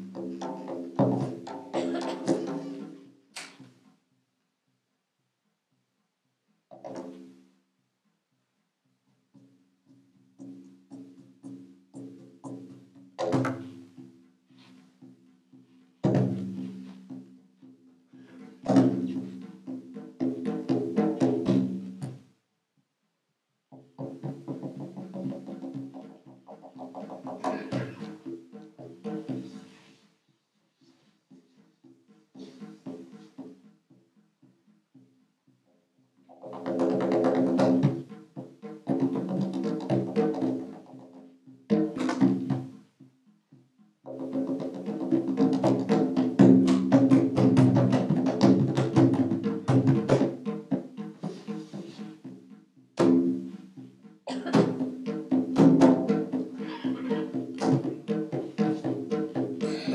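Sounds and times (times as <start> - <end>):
hand drums: 0.0 - 4.0, 6.7 - 7.6, 8.9 - 22.4, 23.7 - 59.9.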